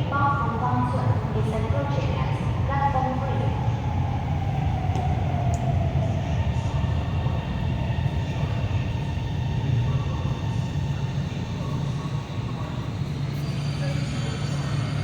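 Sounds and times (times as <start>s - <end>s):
faint train whine: 0.0s - 15.0s.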